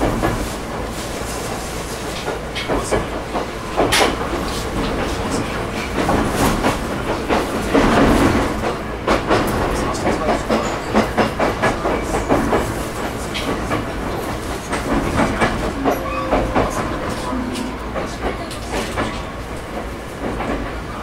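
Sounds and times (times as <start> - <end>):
train rumble: 0.0 - 21.0
train wheels clacking over rails: 0.0 - 21.0.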